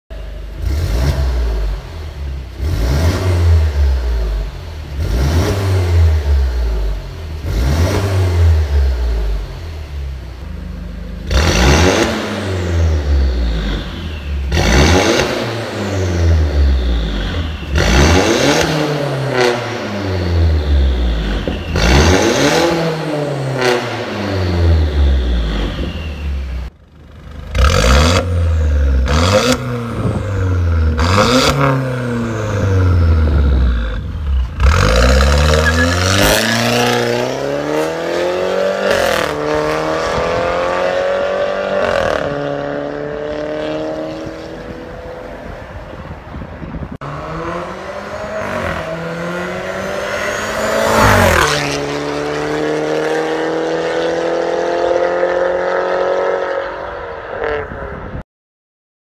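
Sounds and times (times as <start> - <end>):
car engine revving: 0.2 - 45.5, 47.0 - 57.7.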